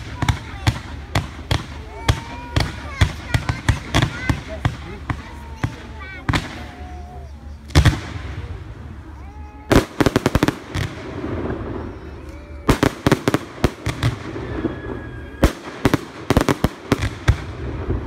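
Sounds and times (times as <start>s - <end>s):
fireworks bang and crackling: 0.0s - 18.0s.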